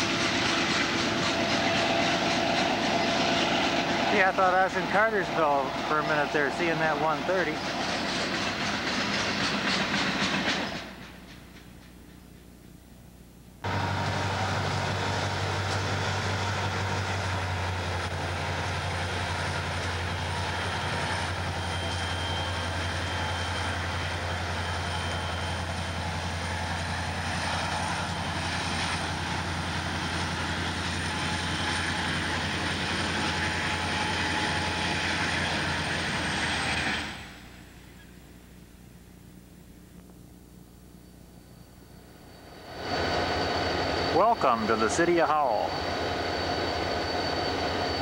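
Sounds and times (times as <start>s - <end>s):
train rolling noise: 0.0s - 12.9s, 13.6s - 39.0s, 41.0s - 48.0s
locomotive engine humming: 0.0s - 48.0s.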